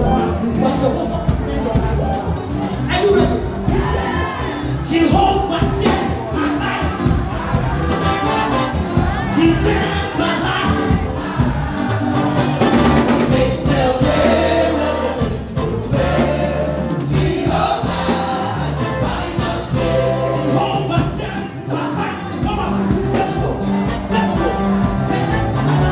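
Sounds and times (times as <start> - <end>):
band playing: 0.0 - 25.9
held bass notes: 0.0 - 25.9
voices singing together: 3.4 - 25.9.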